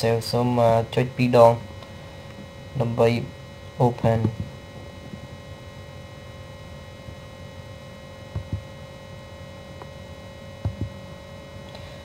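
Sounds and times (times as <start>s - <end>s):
electrical hum with whining tones: 0.0s - 12.0s.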